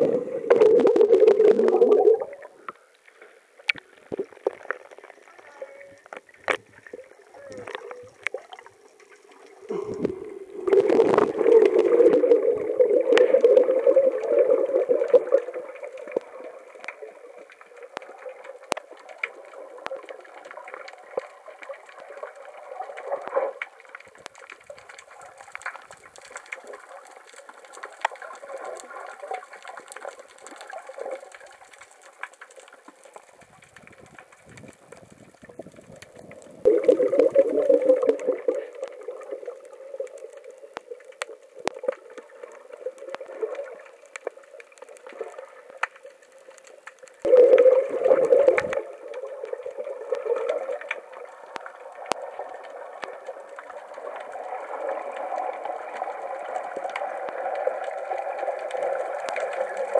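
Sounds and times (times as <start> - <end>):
muffled underwater gurgling: 0.0 - 2.8, 3.7 - 31.6, 32.7 - 59.9.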